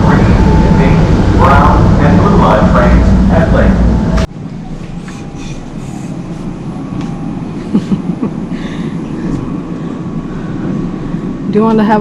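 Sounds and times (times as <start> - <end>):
train car rumble: 0.0 - 12.0.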